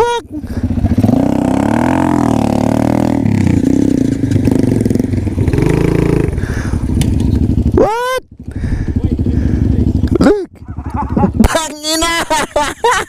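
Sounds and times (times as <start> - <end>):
motorcycle engine revving: 0.3 - 11.7.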